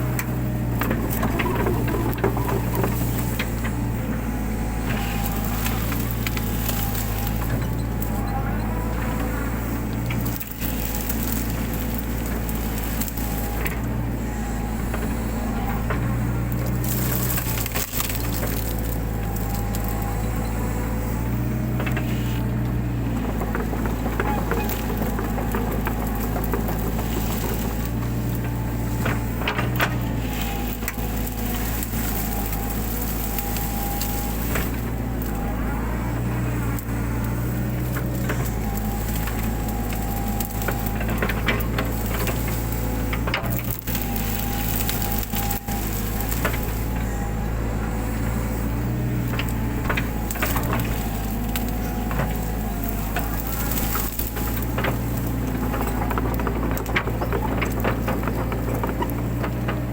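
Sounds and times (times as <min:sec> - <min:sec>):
brush and stems cracking: 0:00.0 - 0:59.9
excavator diesel engine running: 0:00.0 - 0:59.9
hydraulic whine: 0:00.0 - 0:59.9.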